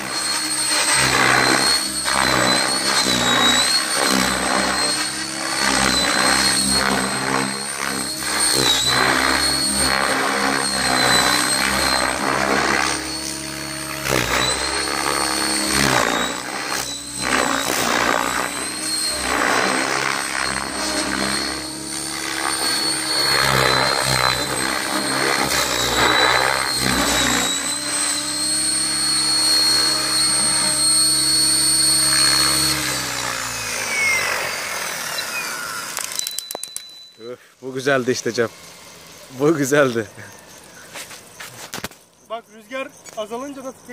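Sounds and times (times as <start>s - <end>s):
helicopter rotor buzz: 0.0s - 41.5s
high motor whine: 0.0s - 43.9s.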